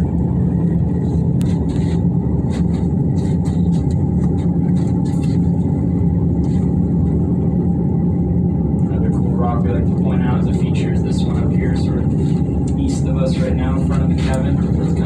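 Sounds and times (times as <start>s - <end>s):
aerial tram rumbling hum: 0.0s - 15.0s.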